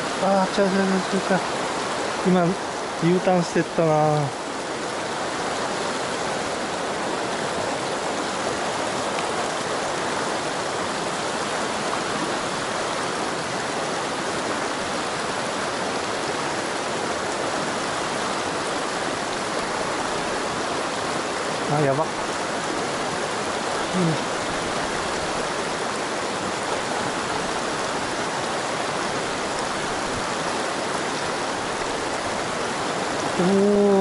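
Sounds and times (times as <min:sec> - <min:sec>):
stream rushing over rocks: 0:00.0 - 0:34.0.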